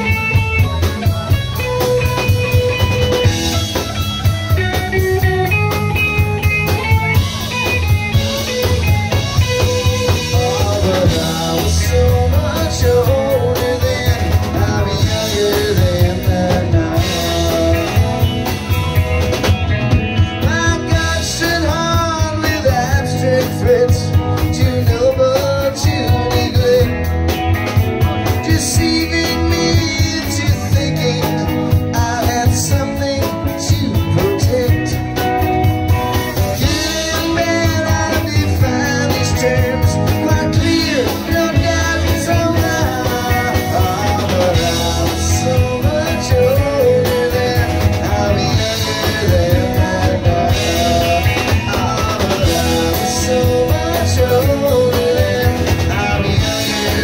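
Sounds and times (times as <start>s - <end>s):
bass: 0.0s - 57.0s
drum kit: 0.0s - 57.0s
electric guitar: 0.0s - 57.0s
man singing: 0.0s - 57.0s.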